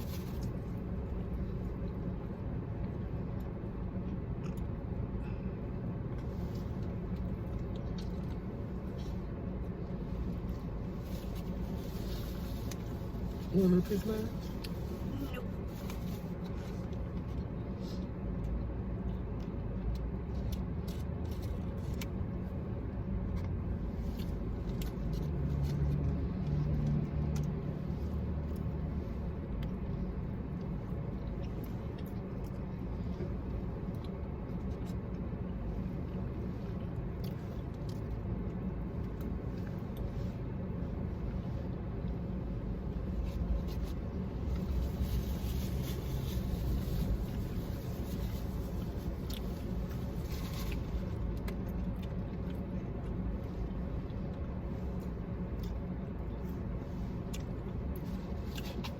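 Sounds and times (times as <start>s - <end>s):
car engine rumble inside cabin: 0.0s - 58.9s.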